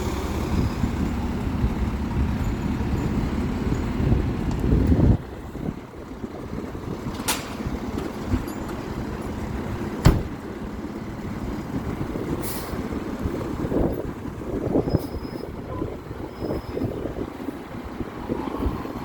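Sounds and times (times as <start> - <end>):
diesel engine running low: 0.0 - 19.0.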